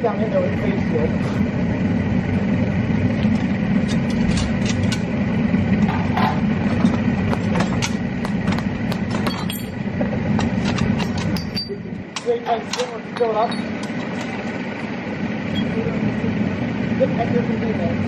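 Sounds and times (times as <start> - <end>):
propane burner roaring: 0.0 - 18.0.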